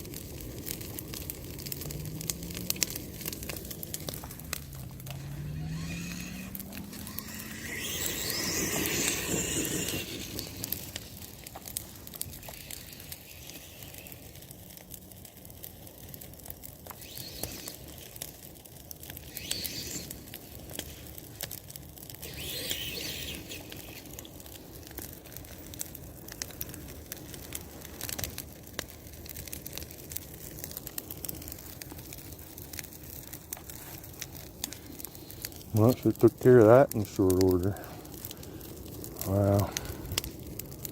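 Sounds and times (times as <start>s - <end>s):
bonfire crackling and popping: 0.0s - 40.9s
fire hissing: 0.0s - 40.9s.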